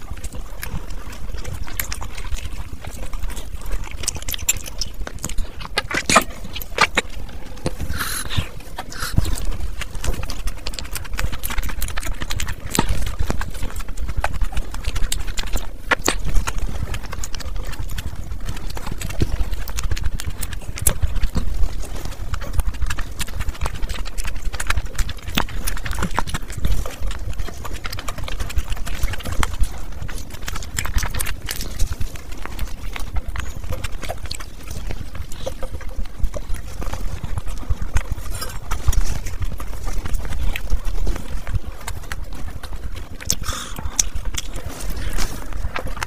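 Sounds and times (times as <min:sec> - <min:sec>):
chewing and lip-smacking: 0:00.0 - 0:46.0.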